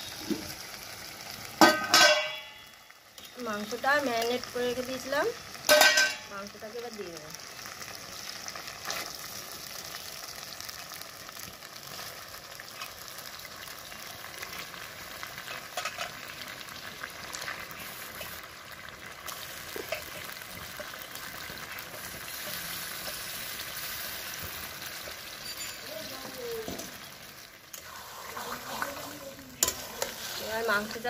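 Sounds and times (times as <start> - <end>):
food sizzling in a wok: 0.0 - 31.0.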